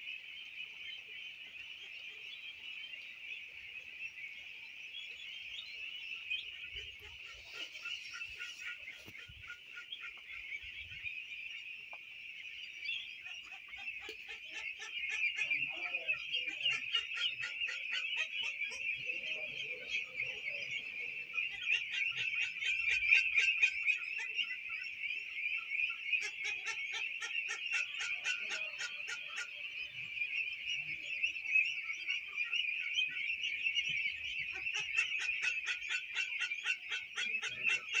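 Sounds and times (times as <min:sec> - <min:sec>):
ducklings peeping: 0:00.0 - 0:38.0.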